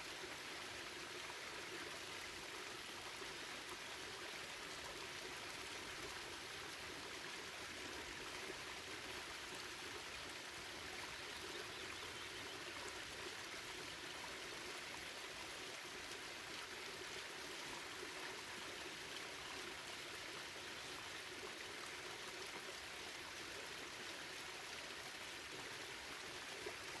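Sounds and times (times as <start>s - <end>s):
stream running over rocks: 0.0s - 27.0s.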